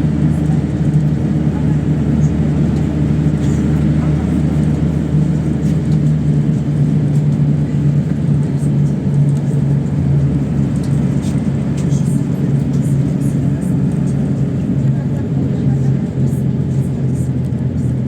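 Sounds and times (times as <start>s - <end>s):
bus engine droning: 0.0s - 18.0s
road rumble: 0.0s - 18.0s.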